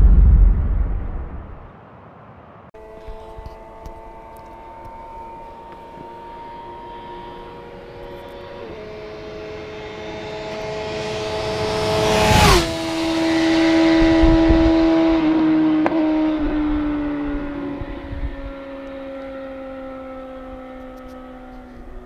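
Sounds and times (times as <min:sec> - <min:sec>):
sport bike engine passing: 0:02.8 - 0:22.0.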